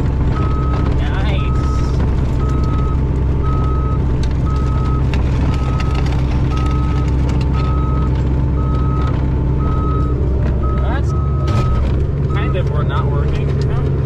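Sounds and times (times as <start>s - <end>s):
excavator diesel engine running: 0.0s - 14.0s
travel alarm beeping: 0.4s - 13.1s.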